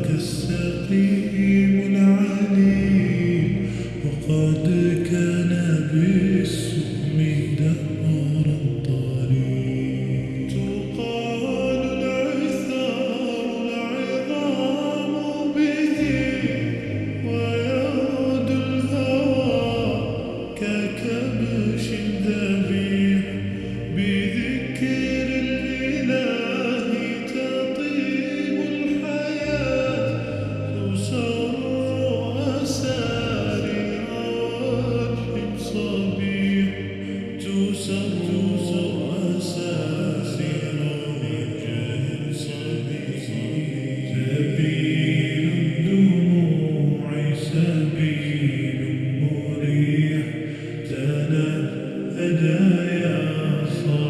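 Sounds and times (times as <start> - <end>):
layered voices singing a cappella: 0.0 - 54.0.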